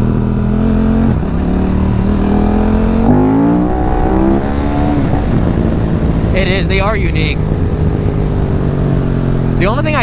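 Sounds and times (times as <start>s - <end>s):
motorcycle engine revving: 0.0s - 10.0s
low wind rush: 0.1s - 10.0s.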